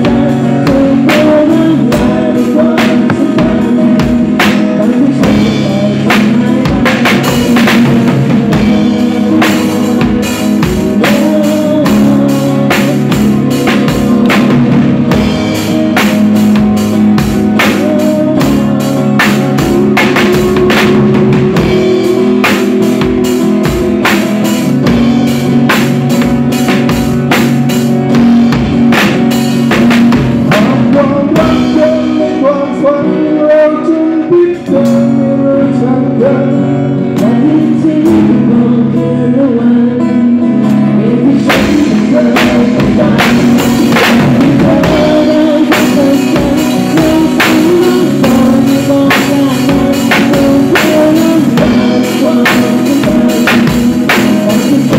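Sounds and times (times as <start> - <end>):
drums and cymbals: 0.0 - 33.6, 34.6 - 35.8, 41.3 - 54.9
live band playing: 0.0 - 54.9
person singing: 0.0 - 54.9.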